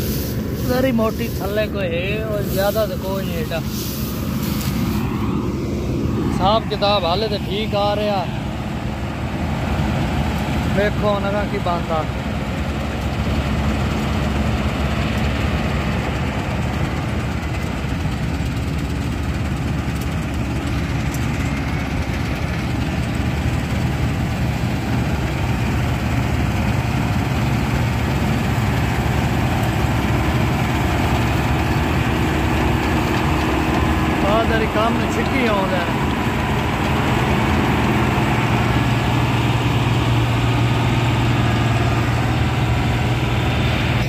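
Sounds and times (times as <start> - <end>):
combine harvester diesel engine: 0.0 - 44.0.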